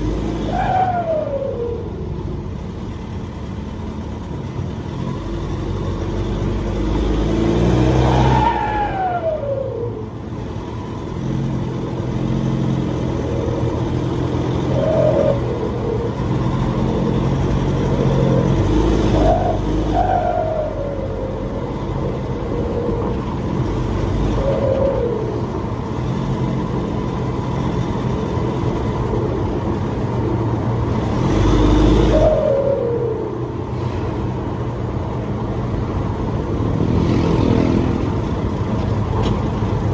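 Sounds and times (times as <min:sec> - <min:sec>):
turbocharged engine accelerating: 0:00.0 - 0:39.9.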